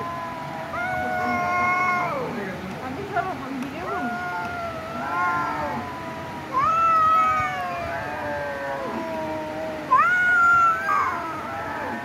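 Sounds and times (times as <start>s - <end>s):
cats yowling: 0.0s - 2.4s, 3.8s - 12.0s.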